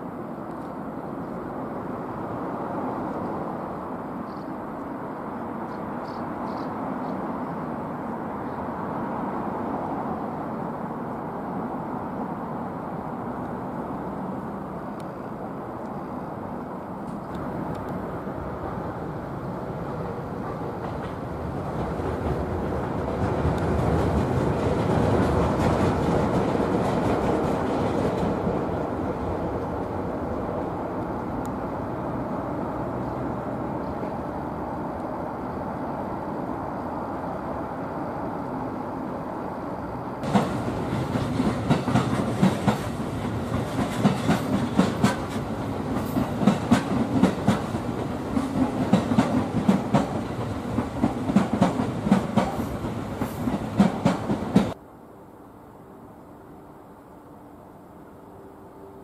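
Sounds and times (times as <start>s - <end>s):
train rolling rumble: 0.0s - 54.9s.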